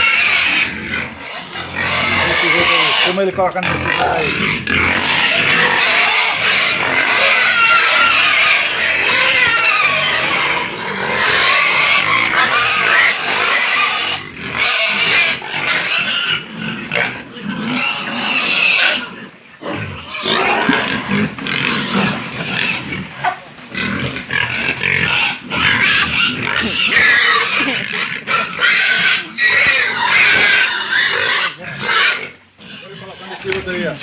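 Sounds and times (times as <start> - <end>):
pigs grunting: 0.0 - 34.0
pigs squealing: 0.0 - 34.0.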